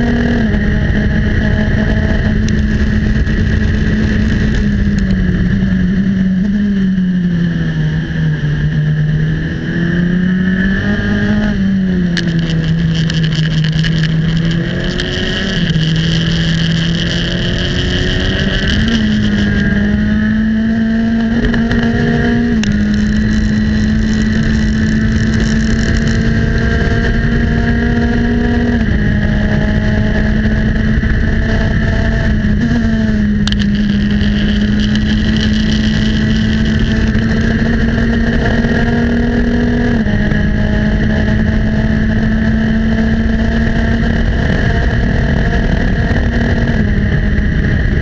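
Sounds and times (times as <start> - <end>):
race car engine under power: 0.0 - 48.0
wind and road rush: 0.0 - 48.0.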